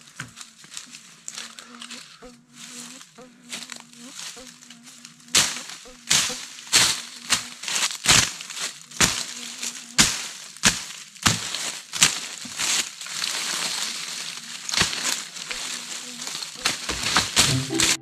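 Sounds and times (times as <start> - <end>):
leaves and twigs crunching: 0.0 - 18.0.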